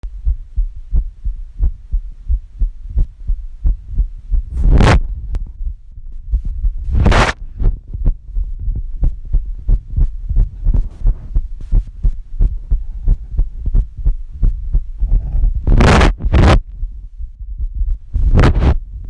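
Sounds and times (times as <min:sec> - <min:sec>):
heartbeat thumps: 0:00.0 - 0:19.0.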